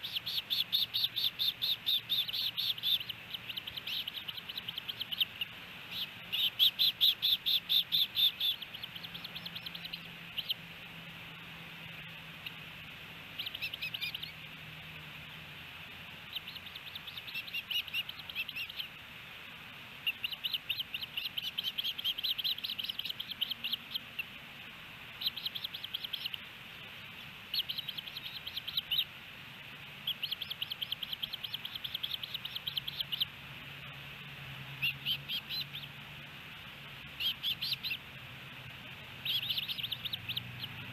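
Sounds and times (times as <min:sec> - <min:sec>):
ospreys chirping: 0:00.0 - 0:40.9.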